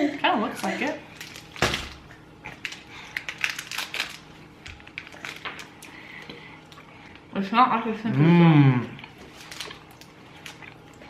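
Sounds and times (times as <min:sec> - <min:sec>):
chocolate bar crackling and crunching: 0:00.4 - 0:07.4, 0:08.9 - 0:11.0.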